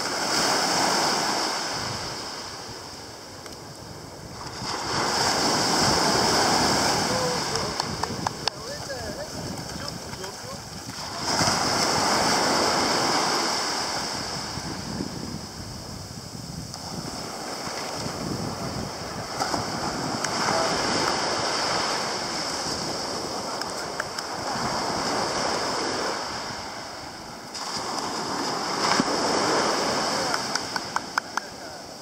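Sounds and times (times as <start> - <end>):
surf washing up a sandy shore: 0.0 - 32.0.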